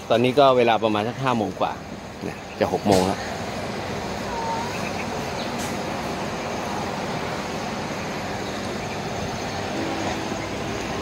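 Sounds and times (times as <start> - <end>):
rushing outdoor noise: 0.0 - 11.0.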